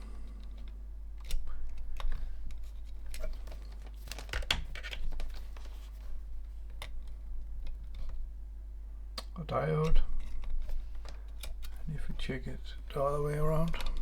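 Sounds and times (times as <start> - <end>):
steady low hum: 0.0 - 4.0, 5.2 - 14.0.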